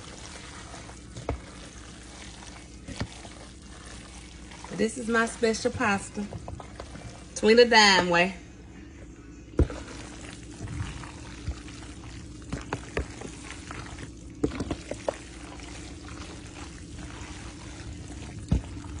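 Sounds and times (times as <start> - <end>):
steady low hum: 0.0 - 19.0
wet stirring: 0.0 - 19.0.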